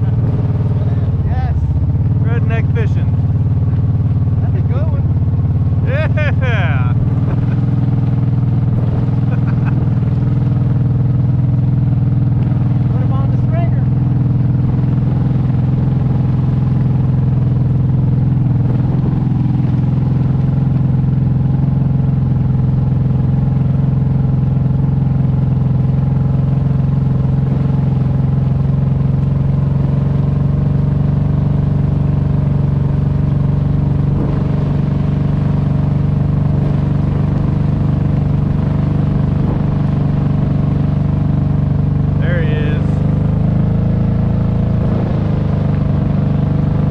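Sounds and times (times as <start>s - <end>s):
engine running under load: 0.0s - 46.9s.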